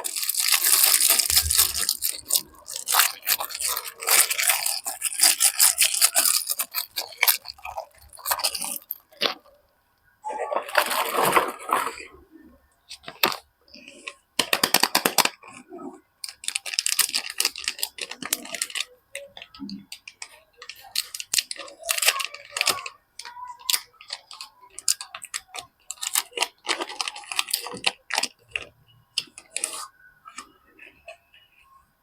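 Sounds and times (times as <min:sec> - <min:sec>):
packaging crinkling and rustling: 0:00.0 - 0:09.5, 0:10.6 - 0:12.0, 0:16.2 - 0:31.2.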